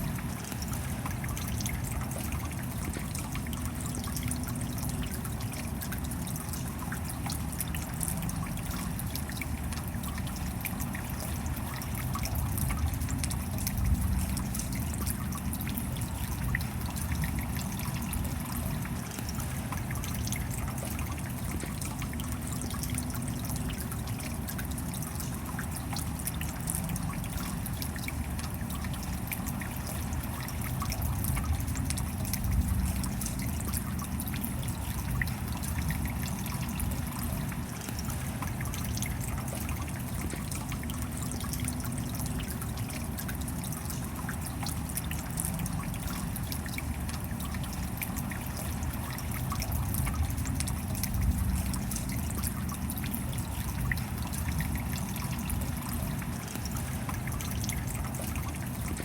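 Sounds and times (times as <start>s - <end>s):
rain falling: 10.4s - 59.0s.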